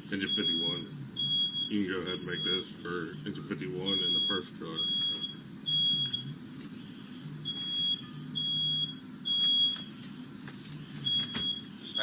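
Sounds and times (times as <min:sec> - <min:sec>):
smoke alarm beeps: 0:00.2 - 0:10.0, 0:10.8 - 0:12.0.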